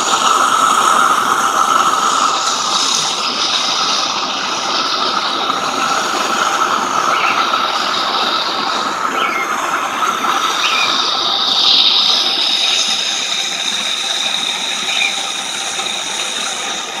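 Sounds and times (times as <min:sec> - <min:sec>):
torch hissing with whistling tone: 0:00.0 - 0:17.0.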